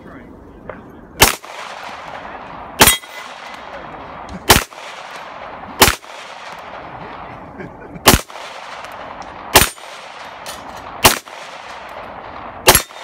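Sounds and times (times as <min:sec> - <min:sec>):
pistol shots with echo: 0:01.2 - 0:07.4, 0:08.0 - 0:13.0.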